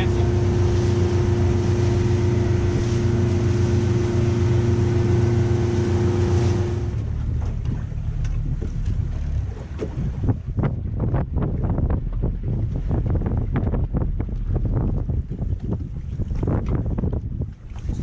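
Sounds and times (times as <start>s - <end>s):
boat engine droning: 0.0s - 18.0s
water splashing against hull: 0.0s - 18.0s
wind on microphone: 0.0s - 18.0s.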